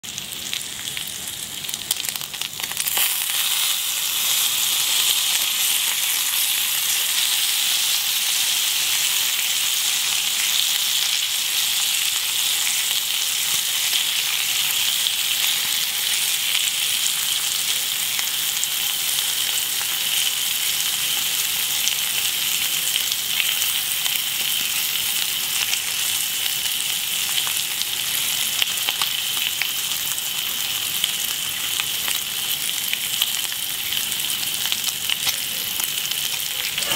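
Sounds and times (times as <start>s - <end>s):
bacon sizzling on grill plate: 0.0s - 36.9s.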